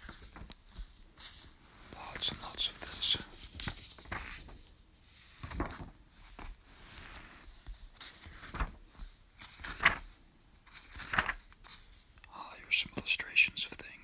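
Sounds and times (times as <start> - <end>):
paper pages rustling: 0.0 - 12.2.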